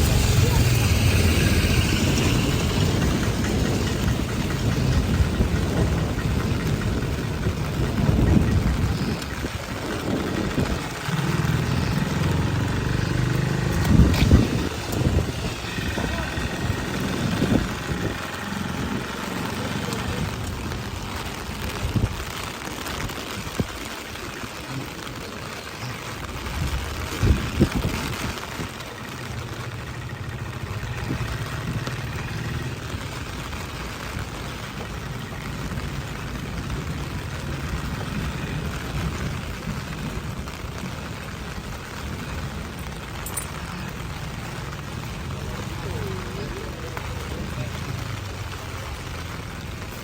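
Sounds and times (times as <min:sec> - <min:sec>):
steady rain hiss: 0:00.0 - 0:50.0
street traffic rumble: 0:00.0 - 0:50.0.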